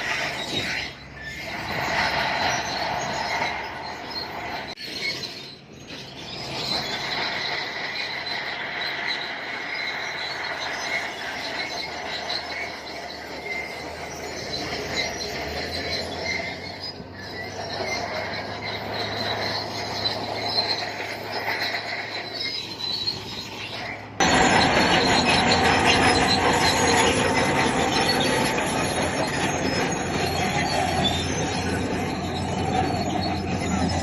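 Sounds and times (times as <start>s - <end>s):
bulldozer tracks squealing and clanking: 0.0s - 34.0s
diesel engine: 0.0s - 34.0s.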